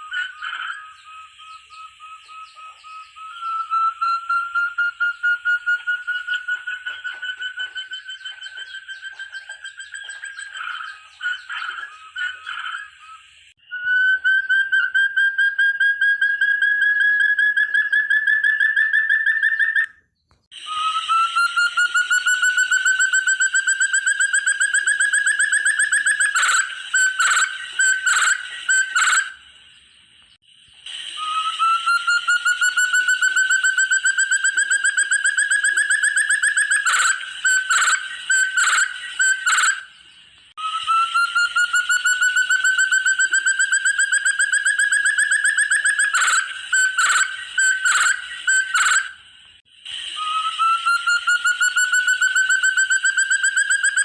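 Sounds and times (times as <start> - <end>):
partridge whistled song: 0.0 - 54.0.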